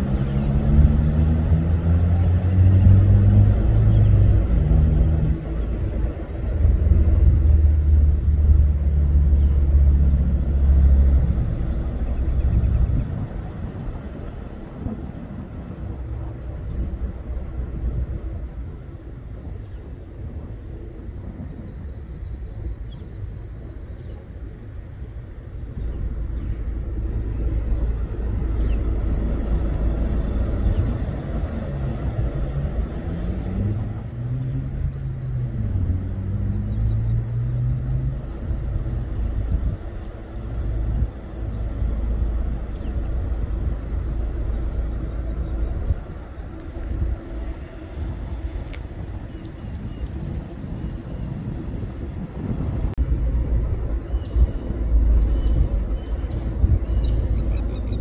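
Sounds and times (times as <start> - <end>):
low engine rumble: 0.0 - 58.0.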